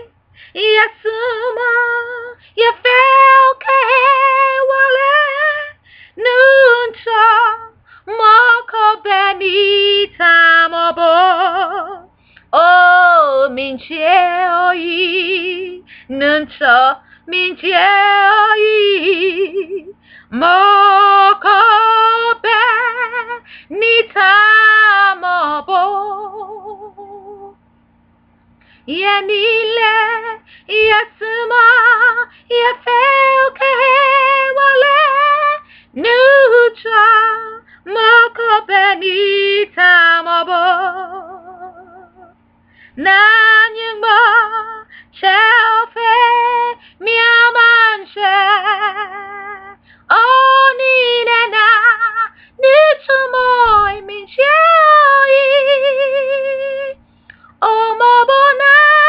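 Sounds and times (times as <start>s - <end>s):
woman singing a hymn: 0.0s - 27.6s, 28.8s - 59.0s.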